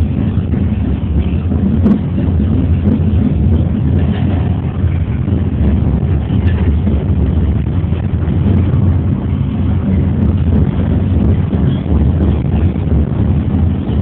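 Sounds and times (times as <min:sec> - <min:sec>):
funicular car rumbling on rails: 0:00.0 - 0:14.0.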